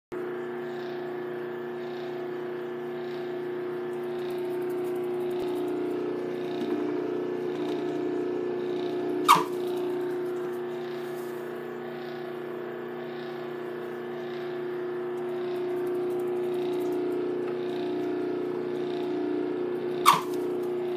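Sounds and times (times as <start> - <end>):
motor spinning wheel whine: 0.2 - 20.9.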